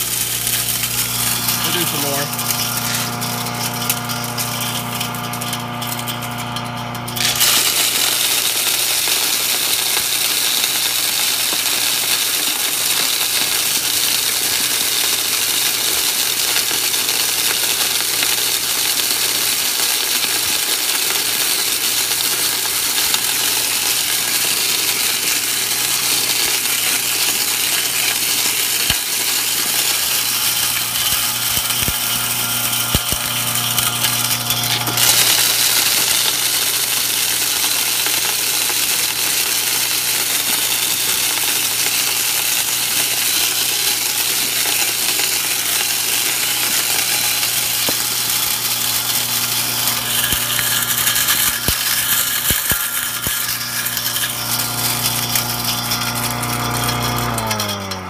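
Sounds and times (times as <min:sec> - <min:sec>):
chipper motor hum: 0:00.0 - 0:58.0
corn kernels clattering: 0:00.0 - 0:58.0.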